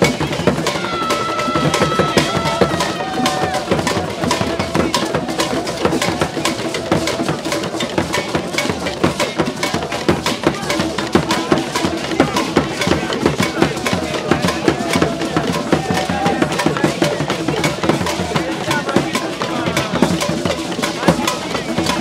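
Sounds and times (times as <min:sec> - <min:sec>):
drums beaten in fast rhythm: 0:00.0 - 0:22.0
voices: 0:00.0 - 0:22.0.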